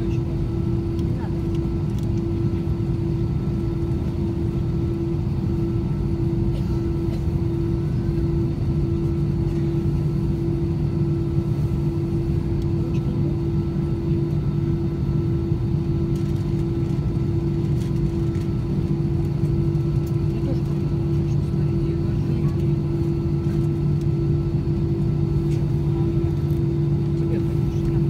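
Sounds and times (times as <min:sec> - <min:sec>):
jet engines humming in cabin: 0:00.0 - 0:28.0.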